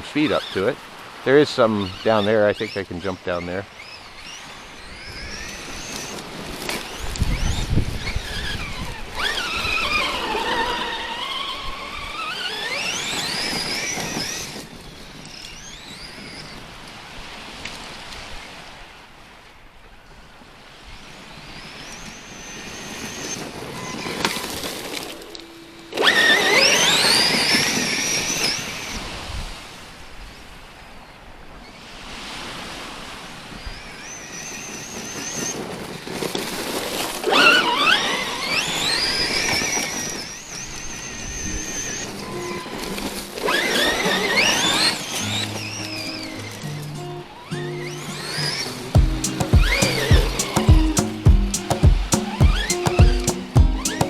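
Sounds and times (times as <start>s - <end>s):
rc truck electric motor whining: 0.2s - 17.0s, 21.0s - 29.2s, 33.3s - 50.8s, 52.0s - 54.0s.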